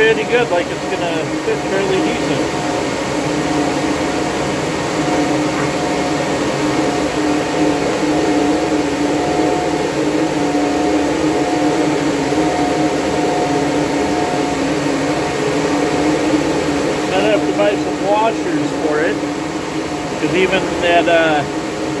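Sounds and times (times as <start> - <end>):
cooling fans whirring: 0.0 - 22.0.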